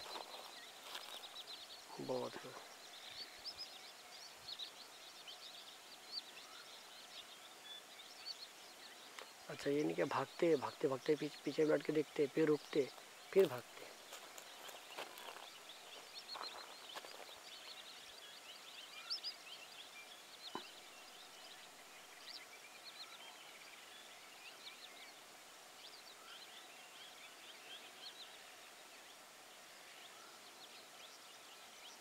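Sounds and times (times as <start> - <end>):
small birds chirping and calling: 0.0 - 32.0.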